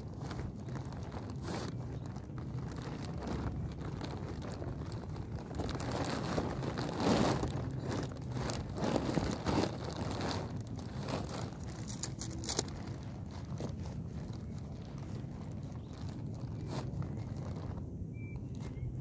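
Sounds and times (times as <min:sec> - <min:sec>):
nylon fabric rustling and crinkling: 0:00.0 - 0:19.0.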